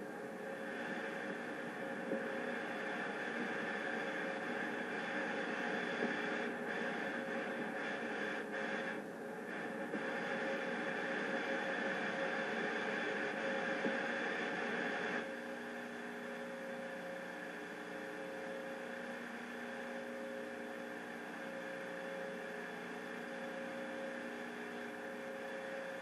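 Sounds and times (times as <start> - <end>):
electrical hum: 0.0 - 26.0
television tape hiss: 0.0 - 26.0.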